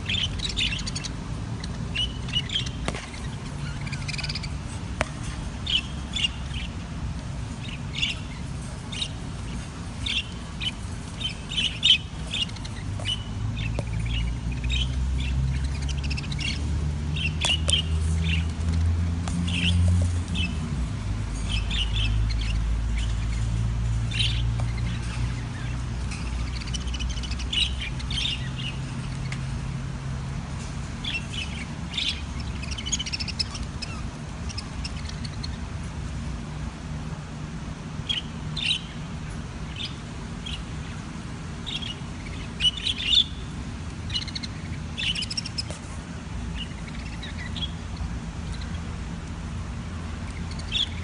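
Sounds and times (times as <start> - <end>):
budgerigars chirping and squawking: 0.0 - 51.0
steady low hum: 0.0 - 51.0.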